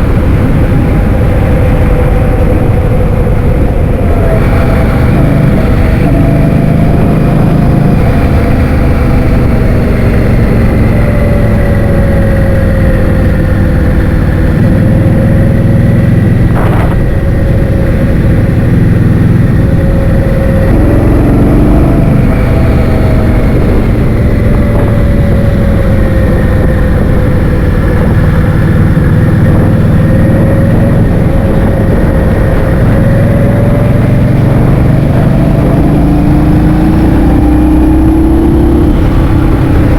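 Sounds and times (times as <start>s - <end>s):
scooter motor: 0.0s - 35.8s
wind buffeting microphone: 0.0s - 39.9s.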